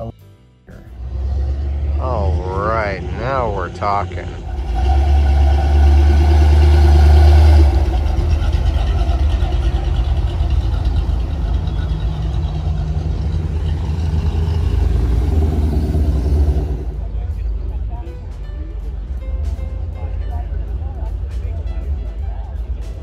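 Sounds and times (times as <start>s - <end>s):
vehicle engine low rumble: 0.7s - 23.0s.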